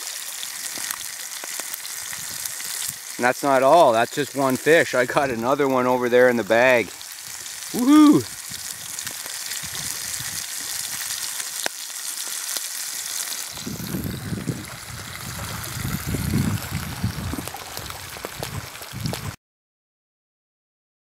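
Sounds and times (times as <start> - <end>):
fish sizzling in a pan: 0.0 - 19.4
water at a lake shore: 0.0 - 19.4
wind: 0.0 - 19.4.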